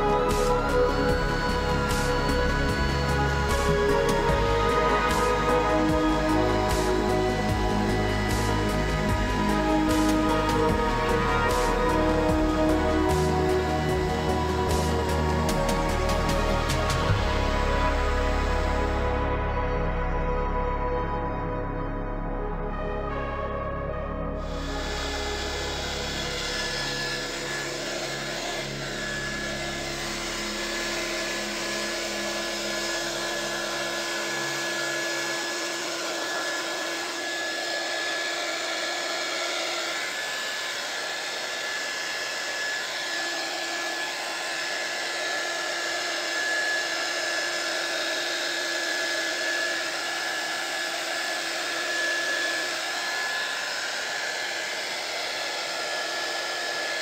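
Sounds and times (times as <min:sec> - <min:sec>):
hot air gun fan hissing: 0:00.0 - 0:19.0, 0:24.4 - 0:57.0
high whine: 0:00.0 - 0:57.0.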